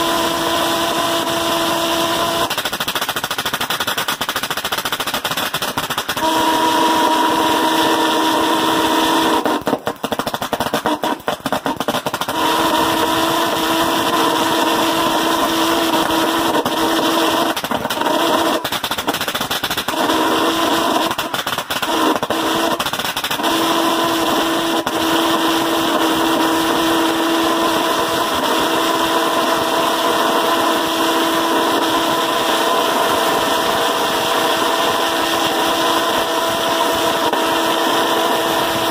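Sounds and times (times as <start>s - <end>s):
pulse jet engine buzzing: 0.0s - 3.2s, 6.1s - 38.9s.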